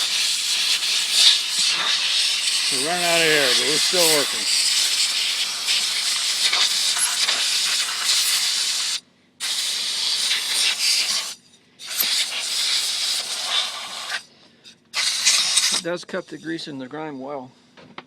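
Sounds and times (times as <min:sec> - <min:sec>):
compressed air blow gun hissing: 0:00.0 - 0:14.3, 0:15.0 - 0:15.8.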